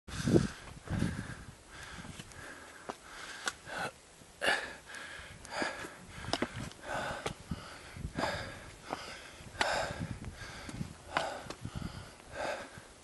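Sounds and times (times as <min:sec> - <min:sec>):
person breathing hard: 0:00.1 - 0:13.0.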